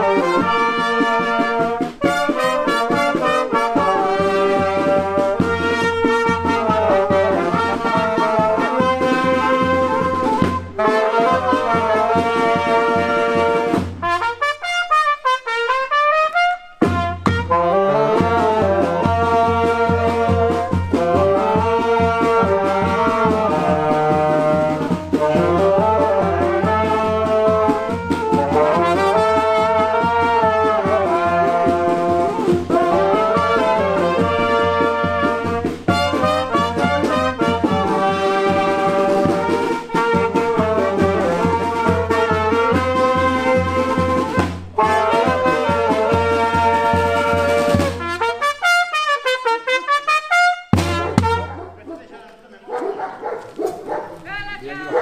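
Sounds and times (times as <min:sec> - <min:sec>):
brass street band playing: 0:00.0 - 0:55.0.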